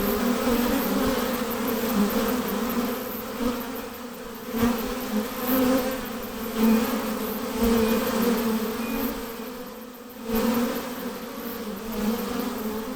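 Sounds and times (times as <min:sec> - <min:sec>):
honey bees buzzing: 0:00.0 - 0:12.9.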